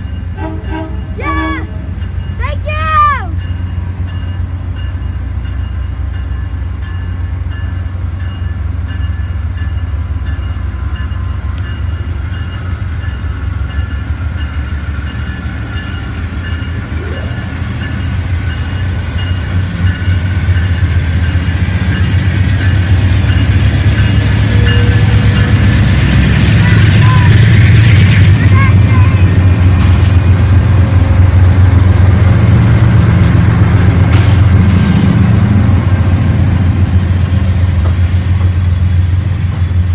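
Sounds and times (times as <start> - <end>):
diesel locomotive rumble: 0.0 - 39.9.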